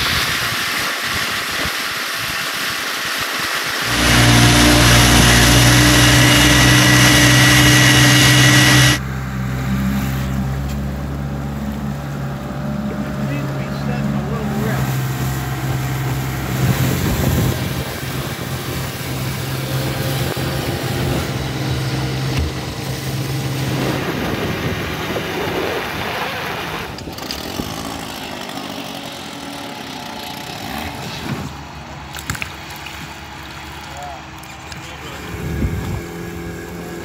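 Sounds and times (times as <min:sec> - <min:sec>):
outboard motors running: 0:00.0 - 0:37.0
wind: 0:00.0 - 0:37.0.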